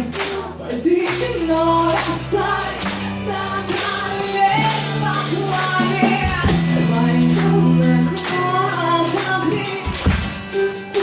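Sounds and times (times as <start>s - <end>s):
held bass notes: 0.0s - 10.5s
drum and cymbal hits: 0.0s - 11.0s
electric guitar: 0.0s - 11.0s
person singing: 0.0s - 11.0s.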